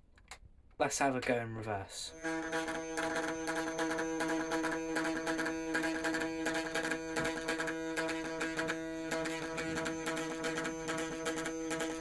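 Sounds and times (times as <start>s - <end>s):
model locomotive motor whine: 2.1s - 12.0s.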